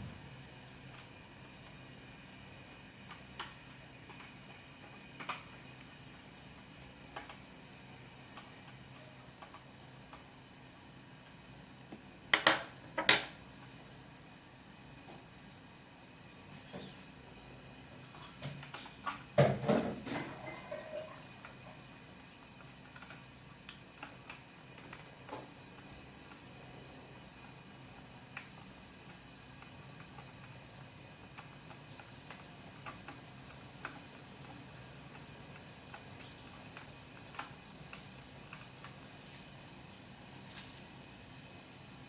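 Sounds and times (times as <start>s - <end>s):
faint hum and hiss: 0.0s - 42.0s.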